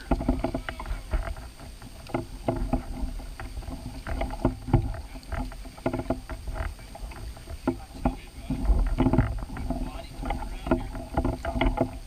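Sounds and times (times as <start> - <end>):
knocks against boat hull: 2.1 - 12.0.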